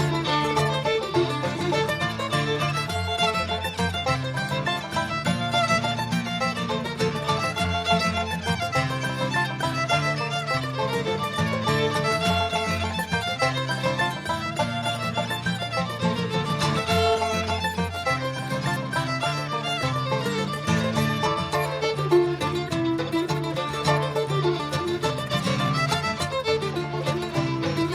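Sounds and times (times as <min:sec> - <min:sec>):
banjo: 0:00.0 - 0:27.9
fiddle melody: 0:00.0 - 0:27.9
guitar: 0:00.0 - 0:27.9
mandolin: 0:00.0 - 0:27.9.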